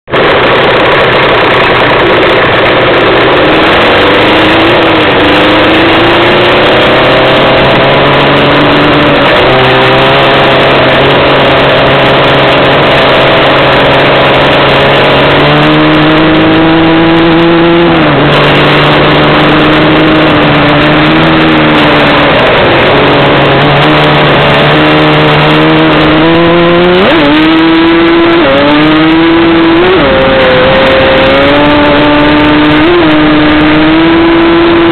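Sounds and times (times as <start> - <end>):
two-stroke engine accelerating: 0.1 - 34.9.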